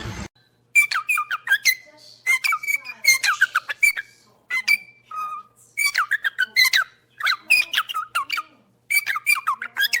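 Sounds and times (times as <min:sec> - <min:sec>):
parrot chirping and squawking: 0:00.7 - 0:10.0.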